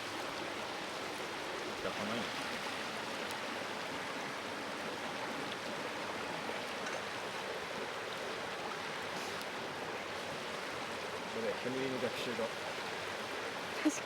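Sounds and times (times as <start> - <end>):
river babbling over stones: 0.0 - 14.0.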